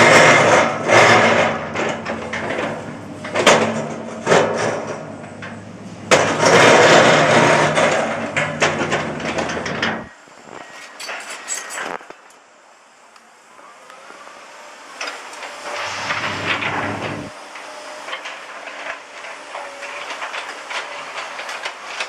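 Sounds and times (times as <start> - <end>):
excavator diesel engine under load: 0.0 - 10.1, 14.0 - 22.0.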